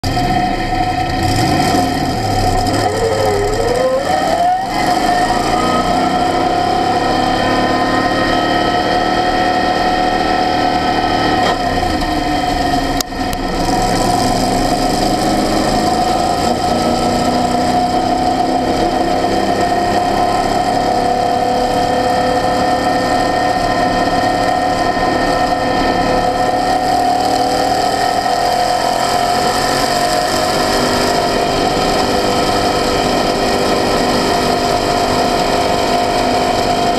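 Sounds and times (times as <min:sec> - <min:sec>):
race car engine accelerating: 0:00.0 - 0:36.9.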